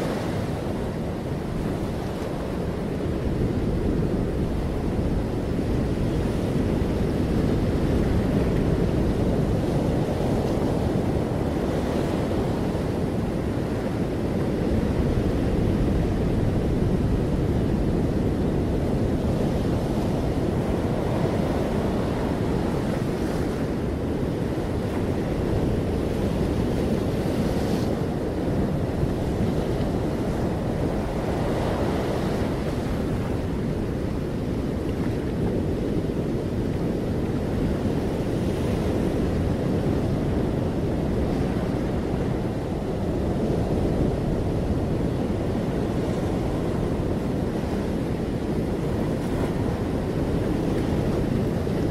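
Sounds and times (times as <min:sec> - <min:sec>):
ocean surf washing: 0:00.0 - 0:51.9.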